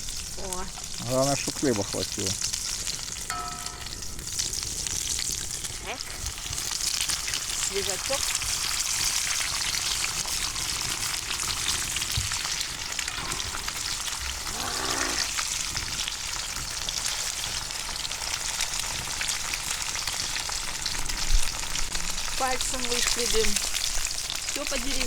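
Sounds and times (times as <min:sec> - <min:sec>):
eggs sizzling in a frying pan: 0:00.0 - 0:25.0.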